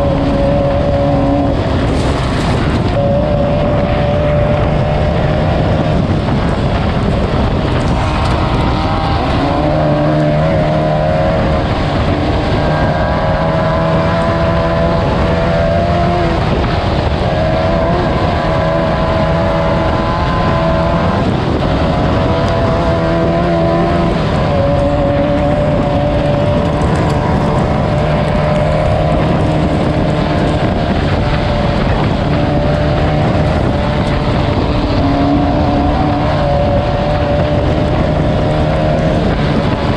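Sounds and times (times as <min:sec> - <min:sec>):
buggy engine running hard: 0:00.0 - 0:39.9
rush of noise: 0:00.0 - 0:39.9.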